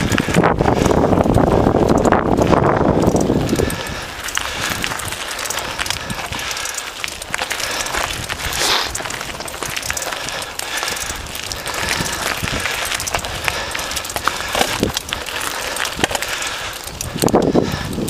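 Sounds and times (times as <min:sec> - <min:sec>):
bike clicking and rattling: 0:00.0 - 0:18.0
bike tyres crunching on gravel: 0:00.0 - 0:18.0.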